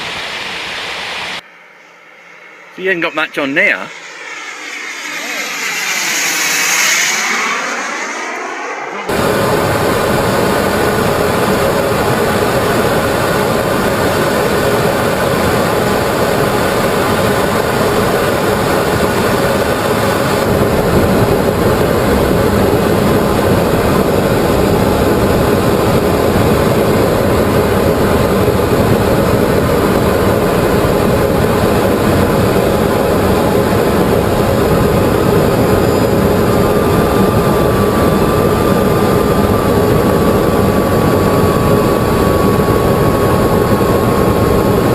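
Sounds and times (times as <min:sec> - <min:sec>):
small aircraft engine and airflow: 0:00.0 - 0:44.9.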